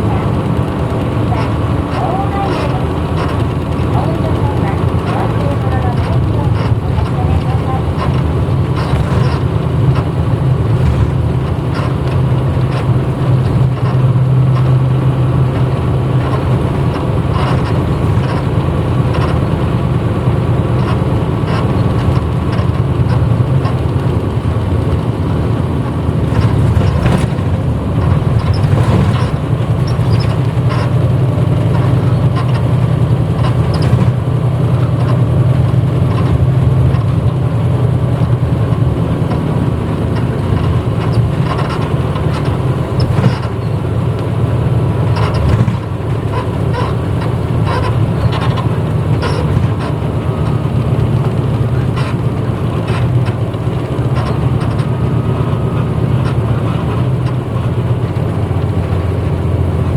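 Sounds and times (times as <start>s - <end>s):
bus diesel engine humming: 0.0s - 59.9s
road noise: 0.0s - 59.9s
short rattles and knocks: 0.0s - 59.9s.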